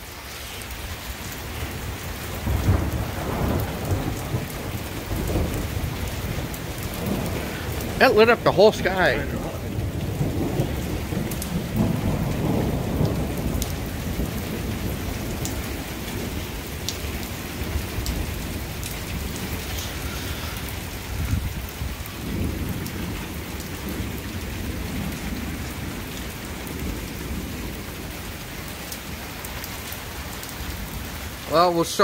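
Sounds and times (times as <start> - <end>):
steady rain falling: 0.0 - 32.0
thunder rumbling: 0.9 - 29.2.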